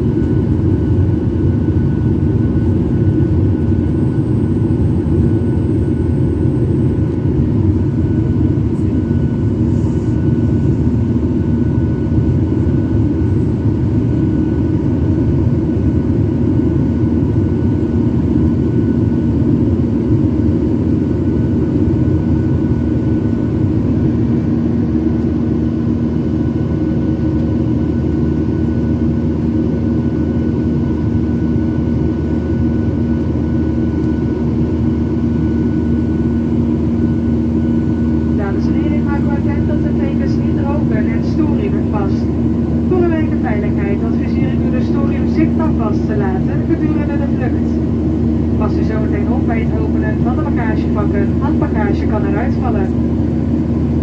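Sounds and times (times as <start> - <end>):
jet airliner cabin drone: 0.0 - 54.0.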